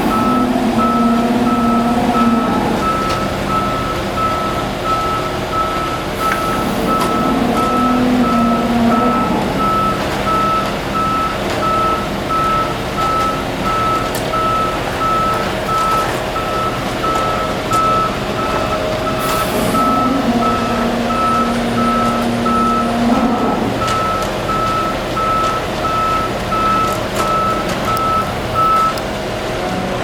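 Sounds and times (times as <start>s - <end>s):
diesel engine running: 0.0s - 30.0s
truck reversing alarm beeping: 0.0s - 30.0s.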